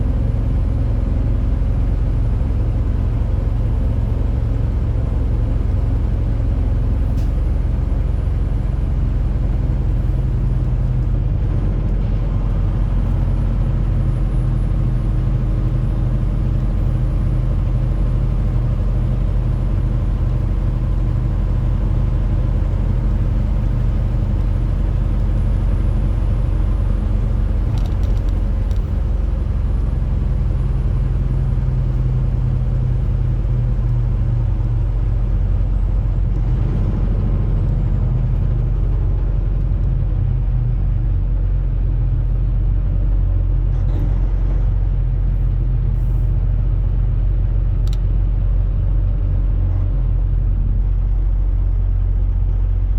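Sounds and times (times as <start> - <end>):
road noise: 0.0 - 52.9
truck engine running: 0.0 - 52.9.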